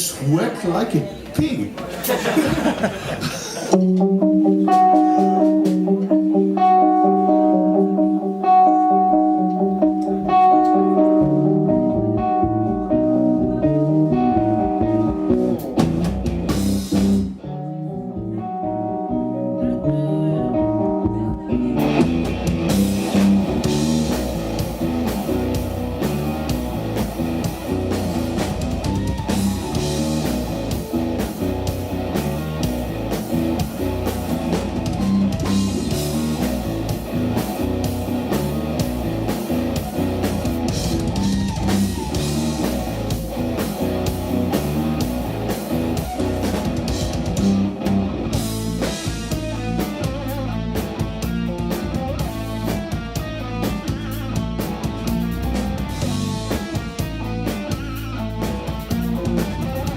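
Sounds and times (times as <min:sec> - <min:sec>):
drum kit: 0:01.4 - 0:59.9
bass guitar: 0:02.0 - 0:59.9
electric guitar melody: 0:03.6 - 0:59.9.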